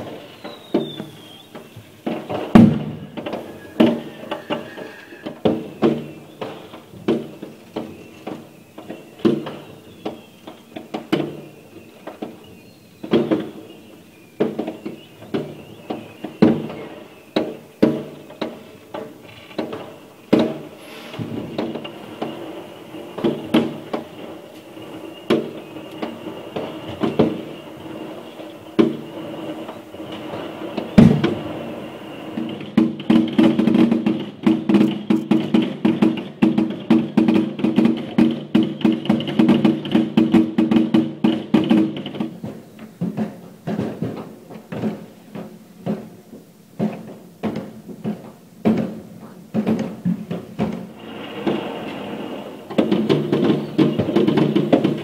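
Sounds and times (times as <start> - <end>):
fireworks bangs: 0.0 - 55.0
rapid crackling fireworks: 0.0 - 55.0.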